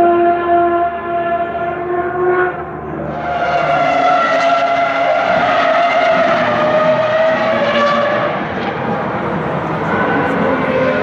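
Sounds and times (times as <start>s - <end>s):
different engine note: 0.0s - 11.0s
racing car engine at high revs: 0.0s - 11.0s.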